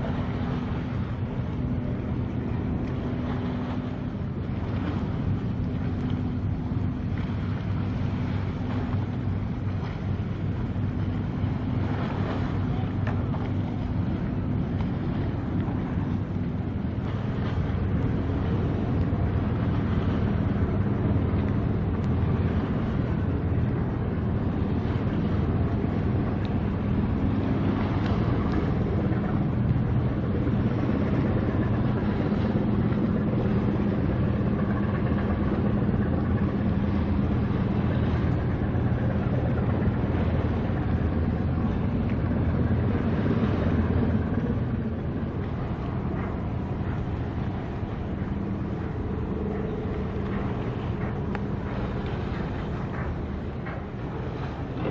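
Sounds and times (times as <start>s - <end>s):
ship engine drone: 0.0s - 54.9s.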